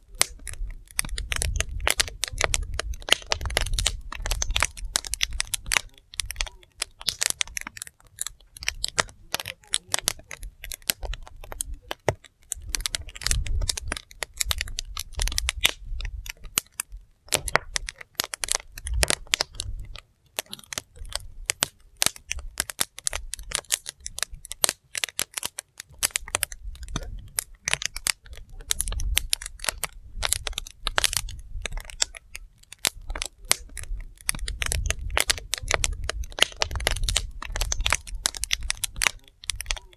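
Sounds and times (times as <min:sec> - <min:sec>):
sharp pops: 0:00.0 - 0:39.9
wood fire crackling: 0:00.0 - 0:39.9.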